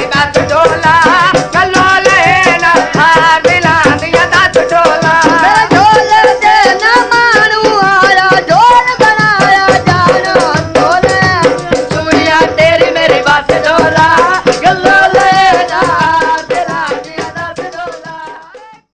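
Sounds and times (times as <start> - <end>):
dhol drum beat: 0.0 - 18.9.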